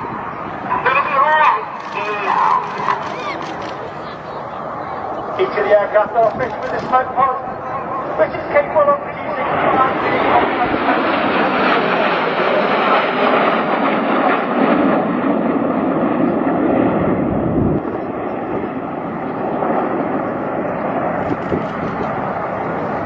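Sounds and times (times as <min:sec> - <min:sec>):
jet engines passing overhead: 0:00.0 - 0:23.0.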